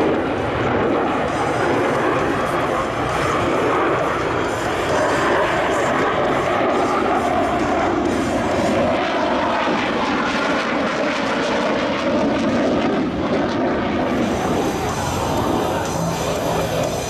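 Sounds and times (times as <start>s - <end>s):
aircraft engine rushing: 0.0s - 17.0s.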